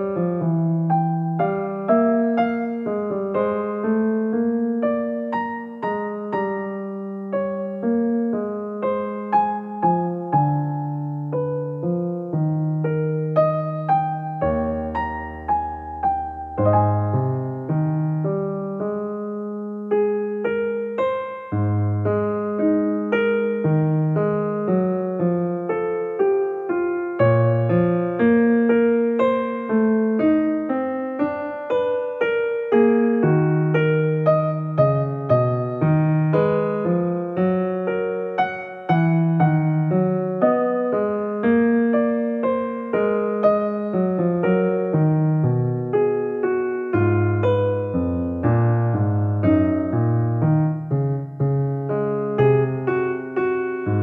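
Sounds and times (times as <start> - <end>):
piano single notes: 0.0 - 54.0.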